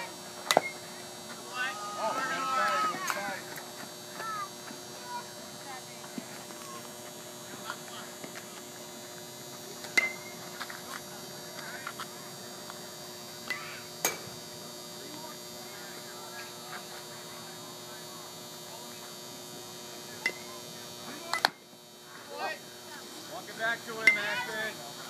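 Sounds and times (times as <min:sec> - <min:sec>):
electrical hum: 0:00.0 - 0:25.0
faint distant voices: 0:04.2 - 0:25.0.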